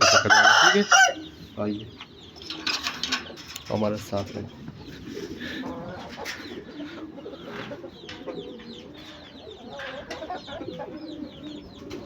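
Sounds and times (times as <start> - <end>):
chickens clucking: 0.0 - 12.0
pigeons cooing: 0.0 - 12.0
small birds chirping: 0.0 - 12.0.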